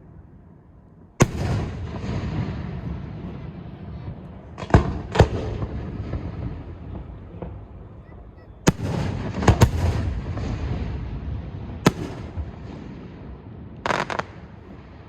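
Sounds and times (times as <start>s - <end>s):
fireworks bursting with bangs: 1.2s - 15.0s.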